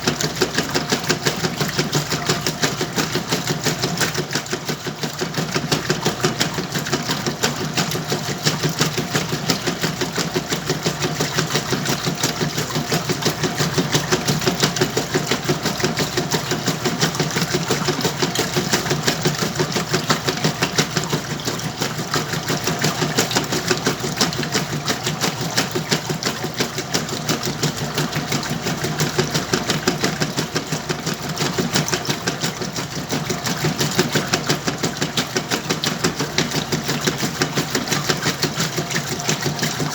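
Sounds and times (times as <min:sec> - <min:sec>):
washing machine clatter: 0:00.0 - 0:39.9.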